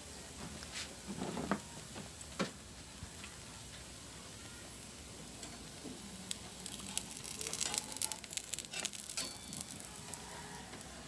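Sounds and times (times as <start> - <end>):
batter sizzling in frying pan: 0.0 - 11.0.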